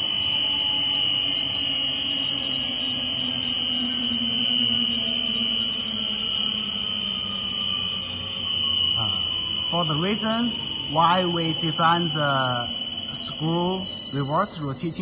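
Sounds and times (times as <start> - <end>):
electric motor hum winding down: 0.0 - 15.0
high-pitched whine: 0.0 - 15.0.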